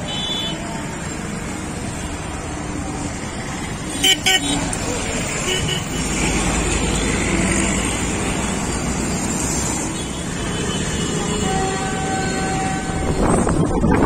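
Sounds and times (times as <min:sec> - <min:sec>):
road traffic din: 0:00.0 - 0:14.0.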